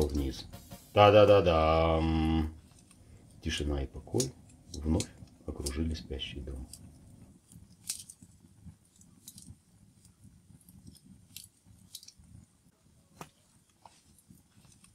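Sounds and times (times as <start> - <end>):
fire popping: 0.0 - 14.9
wood fire crackling: 0.0 - 14.9.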